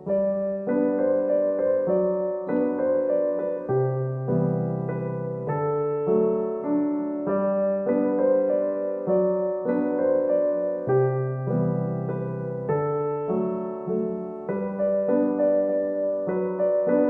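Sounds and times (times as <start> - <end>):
soft keyboard music: 0.0 - 17.0.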